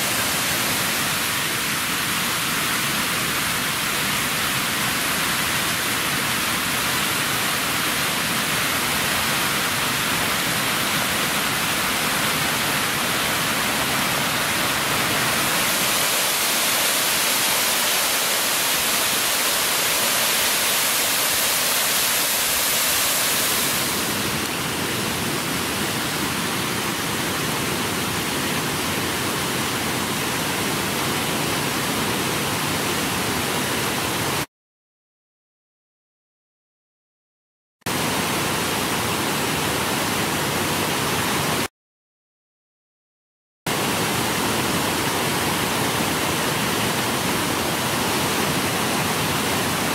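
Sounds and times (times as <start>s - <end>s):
waterfall rushing: 0.0s - 34.5s, 43.7s - 49.9s.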